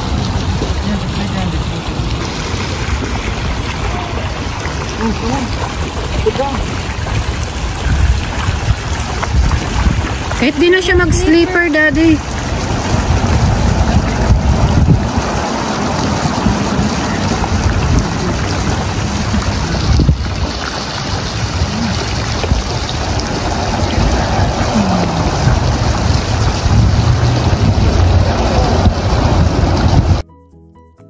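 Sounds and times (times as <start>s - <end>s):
water washing in pool: 0.0s - 30.2s
wind buffeting microphone: 0.0s - 30.2s.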